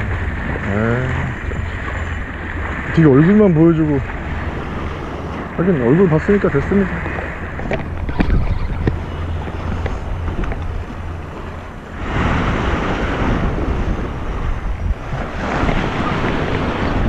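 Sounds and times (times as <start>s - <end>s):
waves washing against seawall: 0.0s - 17.0s
wind buffeting microphone: 0.0s - 17.0s.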